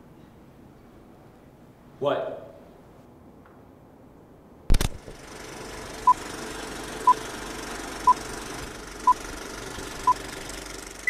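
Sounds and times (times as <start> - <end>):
steady hiss and hum: 0.0 - 11.0.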